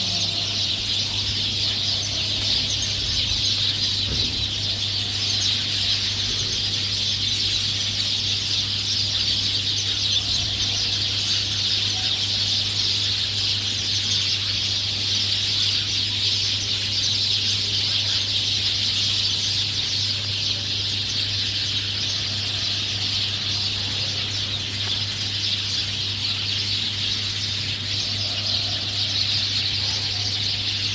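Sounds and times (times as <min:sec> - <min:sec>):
many small birds chirping: 0:00.0 - 0:30.9
steady low hum: 0:00.0 - 0:30.9.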